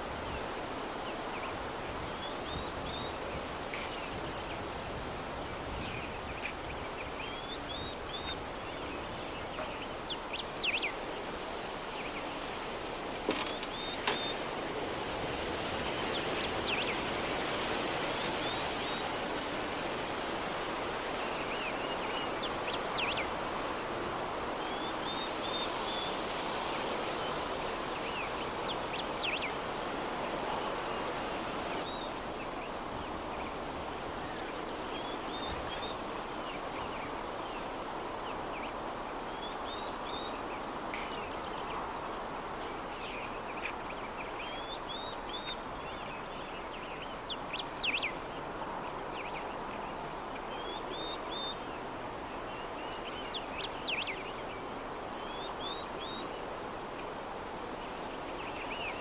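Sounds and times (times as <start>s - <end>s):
soft breeze: 0.0s - 59.0s.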